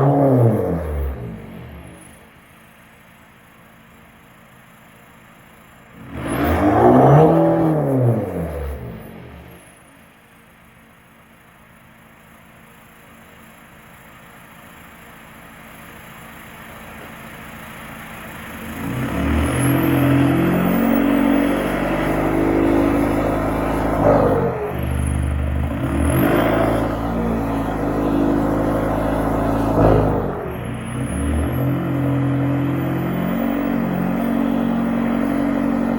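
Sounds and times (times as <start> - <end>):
diesel car engine running: 0.0 - 35.9.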